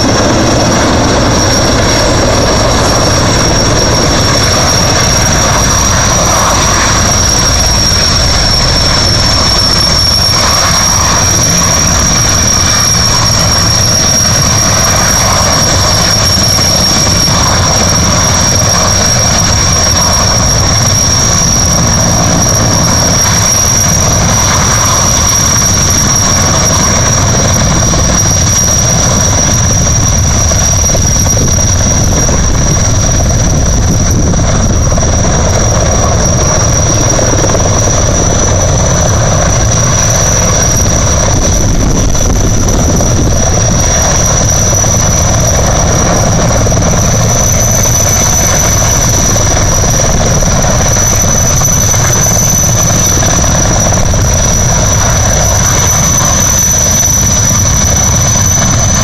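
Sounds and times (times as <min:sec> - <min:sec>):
helicopter rotors: 0:00.0 - 0:59.0
turbine whine: 0:00.0 - 0:59.0.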